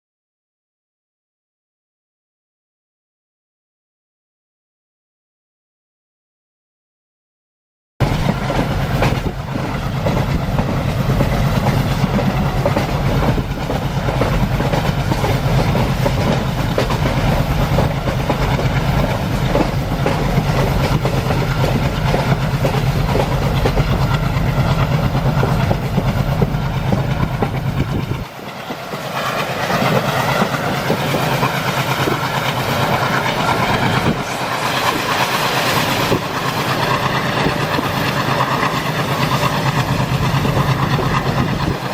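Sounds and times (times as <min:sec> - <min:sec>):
diesel locomotive engine chugging: 0:08.0 - 0:41.9
wheels clattering over rail joints: 0:08.0 - 0:41.9.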